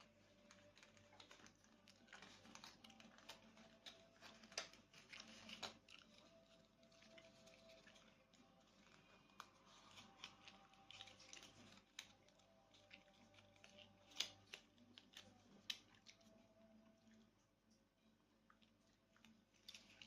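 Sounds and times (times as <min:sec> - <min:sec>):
small objects clicking and rustling: 0:00.0 - 0:16.3, 0:19.2 - 0:20.0.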